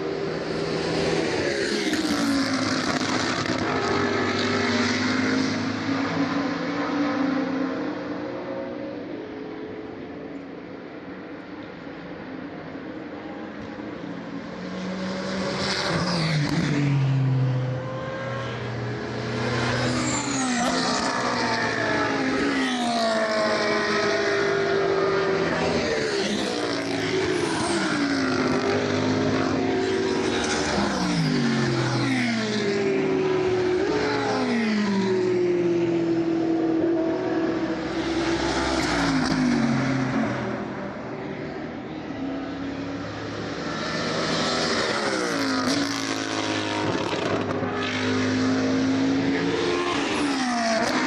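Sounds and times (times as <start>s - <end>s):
race cars passing at speed: 0.0s - 51.0s.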